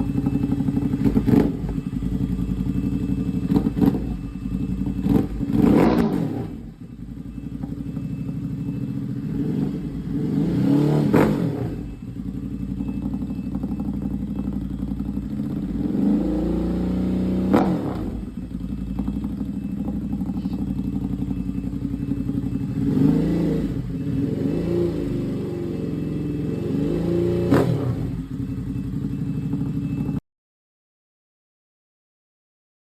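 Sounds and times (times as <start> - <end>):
motorcycle engine idling and revving: 0.0 - 30.2.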